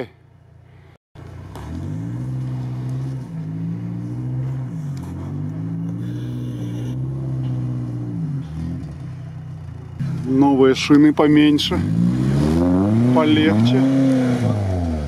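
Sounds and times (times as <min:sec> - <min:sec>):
car engine revving under load: 0:00.6 - 0:15.0.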